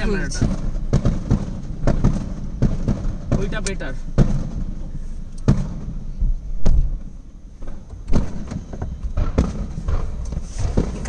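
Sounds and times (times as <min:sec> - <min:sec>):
muffled firework booms: 0:00.0 - 0:11.0.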